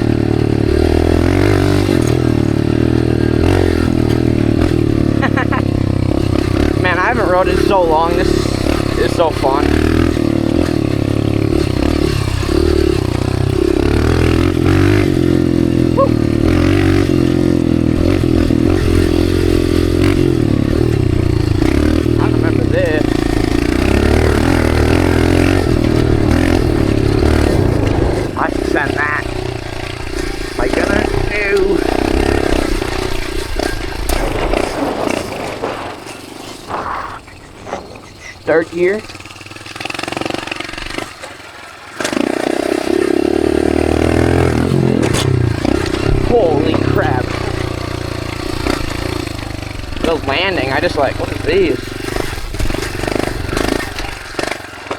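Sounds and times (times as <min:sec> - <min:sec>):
bike knocking over trail: 0:00.0 - 0:54.9
dirt bike engine running: 0:00.0 - 0:54.9
sharp clatter: 0:06.0 - 0:54.9.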